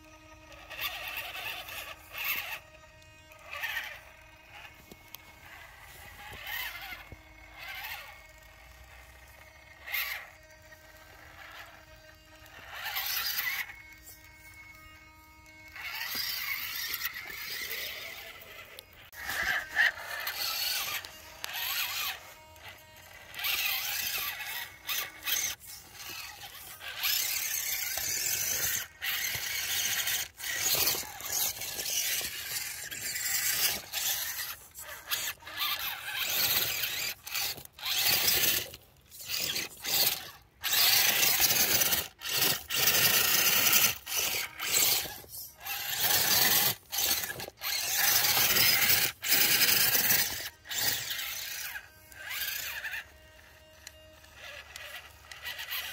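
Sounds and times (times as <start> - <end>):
electric motor whining in bursts: 0.0 - 55.9.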